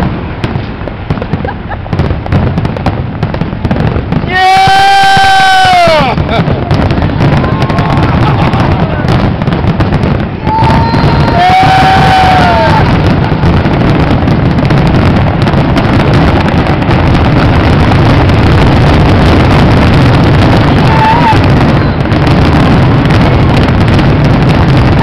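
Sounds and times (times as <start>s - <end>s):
fireworks exploding: 0.0s - 25.0s.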